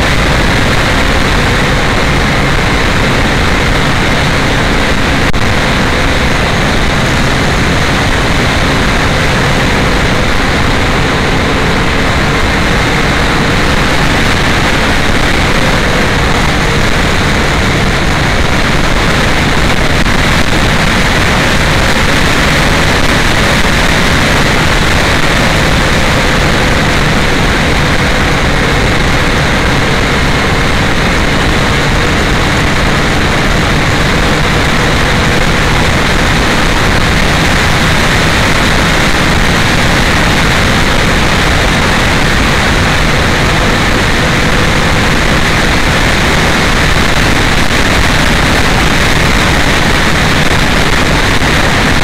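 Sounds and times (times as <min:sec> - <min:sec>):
motorcycle engine drone: 0:00.0 - 0:52.0
wind on microphone: 0:00.0 - 0:52.0.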